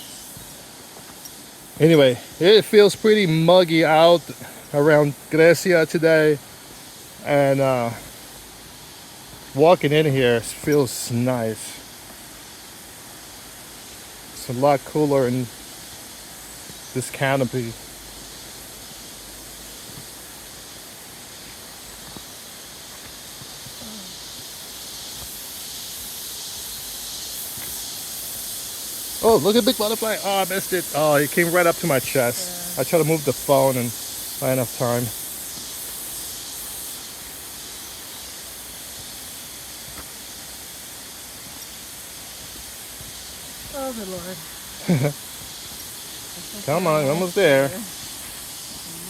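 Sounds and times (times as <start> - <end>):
cicadas buzzing: 0.0 - 49.0.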